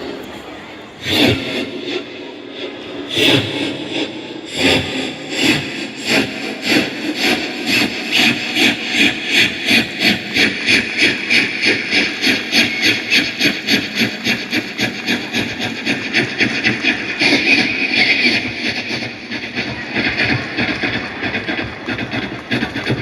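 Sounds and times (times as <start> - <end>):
man imitating train chugging: 0.0 - 23.0.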